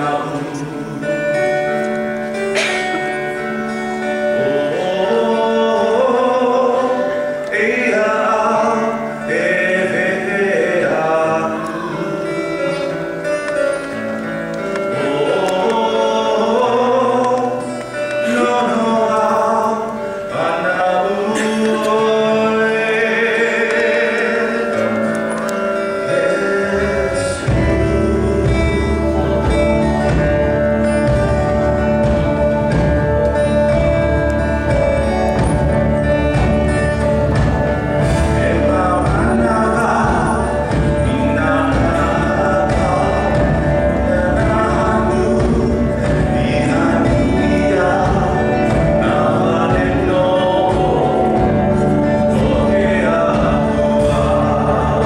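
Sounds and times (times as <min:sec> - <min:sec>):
guitar accompaniment: 0:00.0 - 0:55.0
man singing into a microphone: 0:00.0 - 0:55.0.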